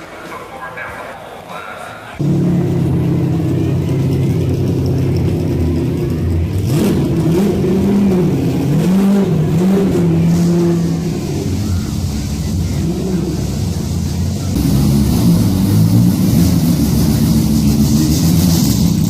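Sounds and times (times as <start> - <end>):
car engine idling and revving: 2.2 - 19.0.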